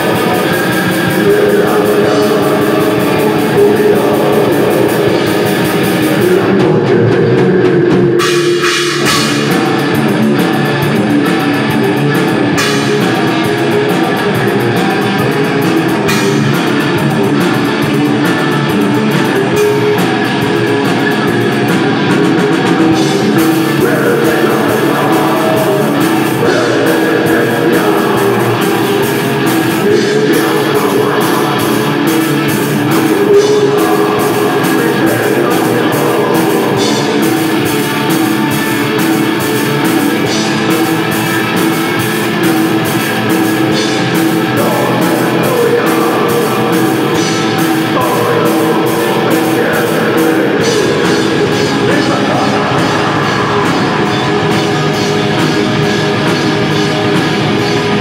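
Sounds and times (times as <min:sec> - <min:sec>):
bass guitar: 0:00.0 - 0:58.0
distorted electric guitars: 0:00.0 - 0:58.0
drum kit: 0:00.0 - 0:58.0
singer's vocals: 0:00.0 - 0:58.0.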